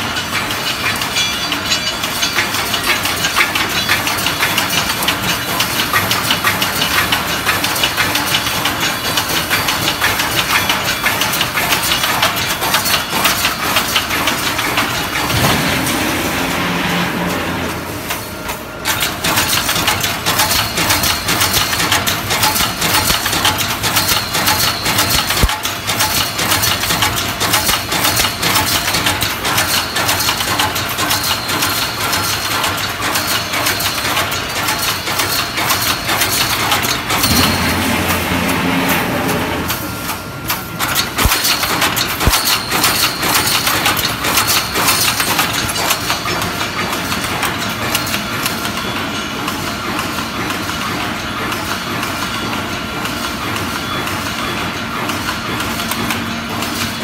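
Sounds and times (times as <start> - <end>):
welding machine knocking and clattering: 0.0 - 57.0.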